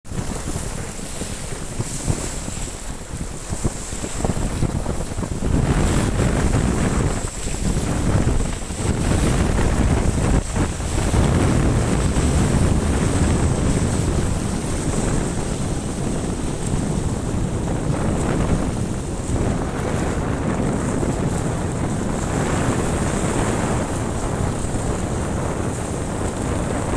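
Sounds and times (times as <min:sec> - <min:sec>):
wind buffeting microphone: 0:00.1 - 0:26.9.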